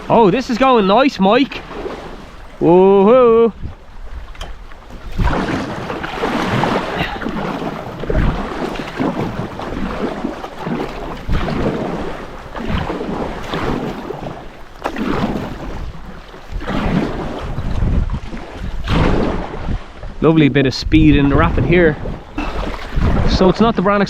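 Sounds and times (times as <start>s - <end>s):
river water rushing and splashing: 0.0s - 20.2s, 21.6s - 24.0s
wind buffeting microphone: 0.0s - 24.0s.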